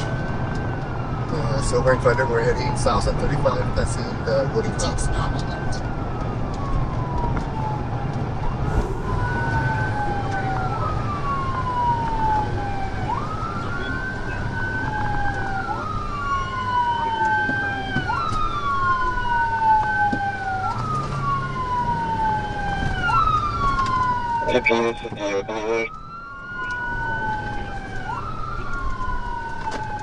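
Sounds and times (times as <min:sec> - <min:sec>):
police siren wailing: 0:00.0 - 0:30.0
road and engine rumble: 0:00.0 - 0:30.0.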